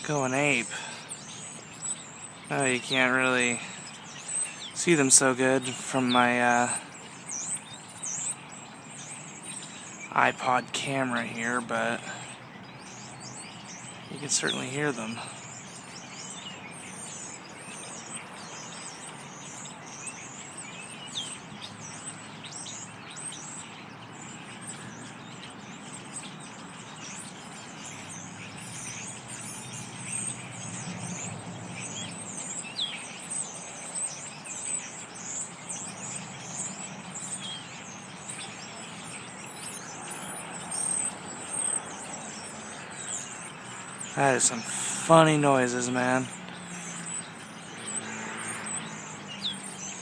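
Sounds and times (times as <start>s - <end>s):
flock of songbirds chirping: 0.0s - 50.0s.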